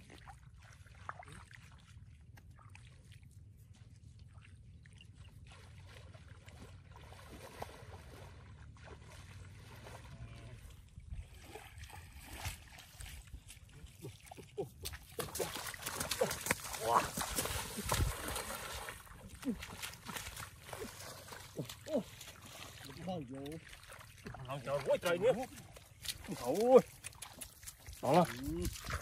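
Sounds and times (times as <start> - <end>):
feet splashing through water: 0.0 - 29.0.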